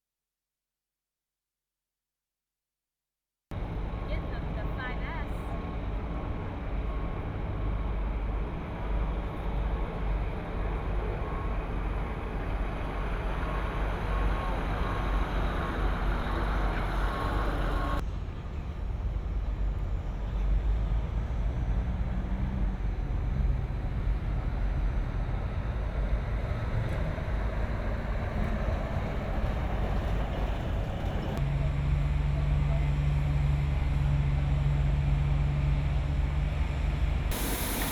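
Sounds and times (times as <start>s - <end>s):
engines rumbling: 3.6s - 37.9s.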